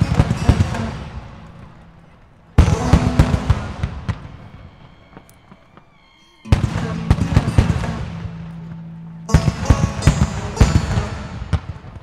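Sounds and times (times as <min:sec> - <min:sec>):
fireworks bursting with crackling: 0:00.0 - 0:12.0.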